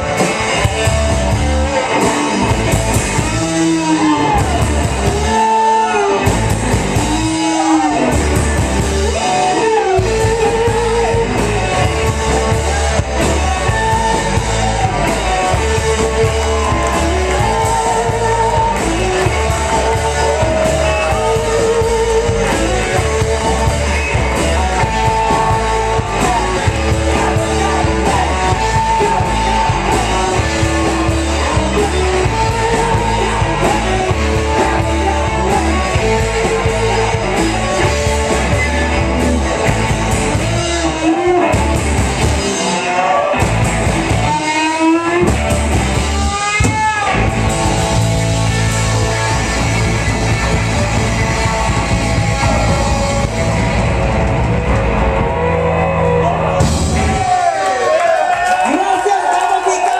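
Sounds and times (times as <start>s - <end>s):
guitar rising slides: 0.0s - 58.0s
bass guitar: 0.0s - 58.8s
distorted electric guitars: 0.0s - 59.9s
drums: 0.0s - 59.9s.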